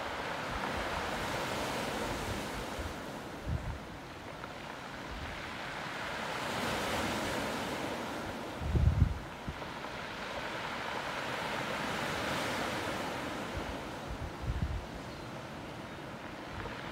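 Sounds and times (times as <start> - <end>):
waves washing onto pebble beach: 0.0 - 16.9
wind rumbling on microphone: 0.0 - 16.9.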